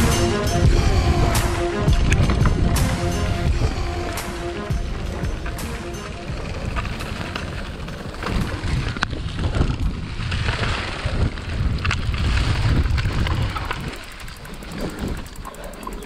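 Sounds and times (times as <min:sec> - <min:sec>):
wind rushing over microphone: 0:00.0 - 0:05.6, 0:06.2 - 0:15.7
bike rattling over bumps: 0:00.0 - 0:16.0
tyres rolling over dry leaves: 0:01.9 - 0:16.0.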